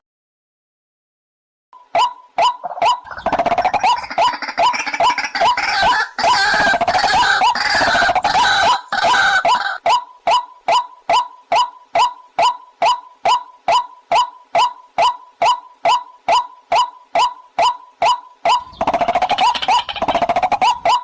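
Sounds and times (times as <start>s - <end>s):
waterhen calling: 2.0s - 21.0s.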